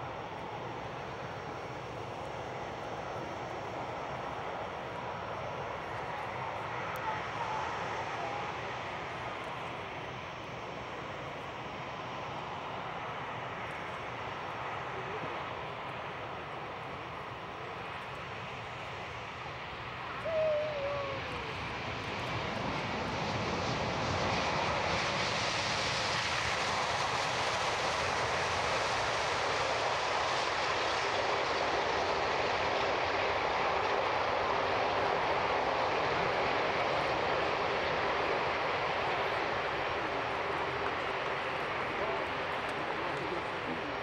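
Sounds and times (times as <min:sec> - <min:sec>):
jet engine rumble and hiss: 0:00.0 - 0:44.0.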